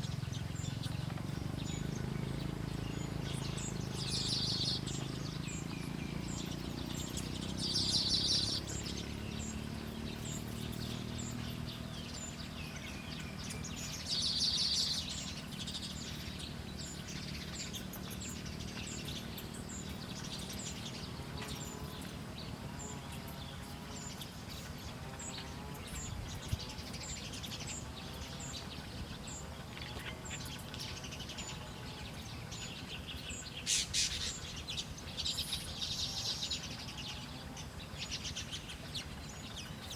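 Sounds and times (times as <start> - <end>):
wild birds chirping: 0.0 - 39.9.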